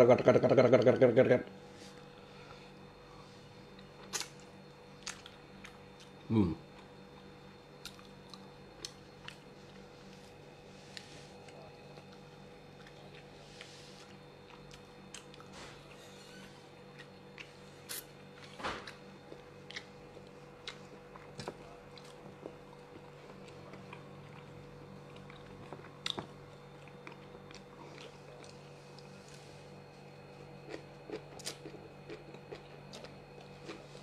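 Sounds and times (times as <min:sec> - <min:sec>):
low electrical hum: 0:00.0 - 0:34.0
person chewing food: 0:03.7 - 0:15.5, 0:16.8 - 0:34.0.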